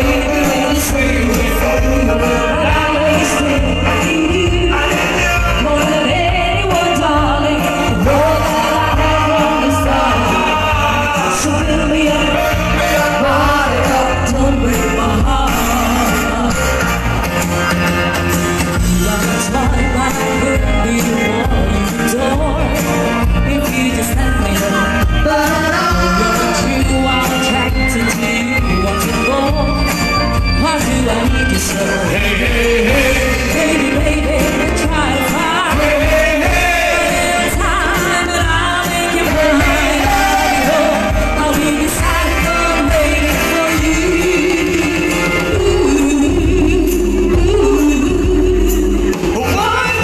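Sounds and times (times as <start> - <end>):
live band with singing: 0.0 - 50.0.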